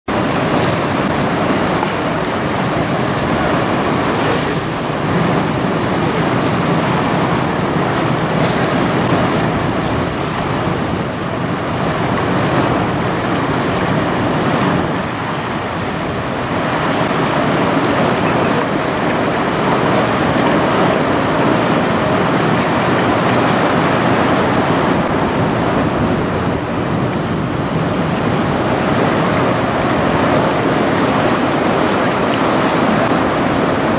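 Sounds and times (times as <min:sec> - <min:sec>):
choppy water: 0:00.0 - 0:33.9
wind buffeting microphone: 0:00.0 - 0:33.9.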